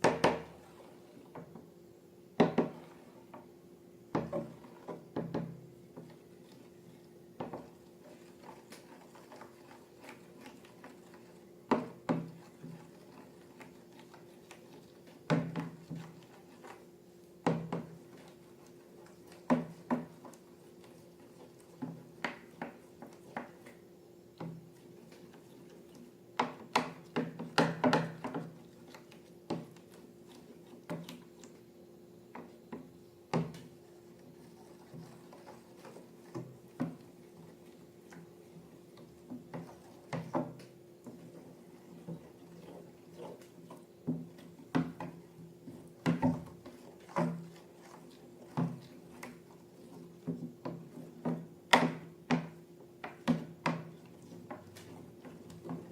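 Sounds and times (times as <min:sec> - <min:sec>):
objects tapping and knocking: 0:00.0 - 0:00.6, 0:02.4 - 0:03.5, 0:04.1 - 0:06.2, 0:07.4 - 0:10.6, 0:11.6 - 0:14.2, 0:15.2 - 0:16.8, 0:17.4 - 0:20.5, 0:21.7 - 0:23.8, 0:24.4 - 0:31.6, 0:32.3 - 0:33.8, 0:34.8 - 0:55.9
faint steady hum: 0:00.0 - 0:55.9.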